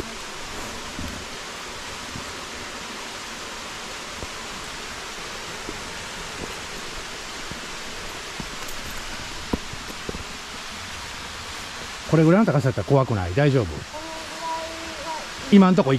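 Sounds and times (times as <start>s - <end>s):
stream water rushing: 0.0s - 15.9s.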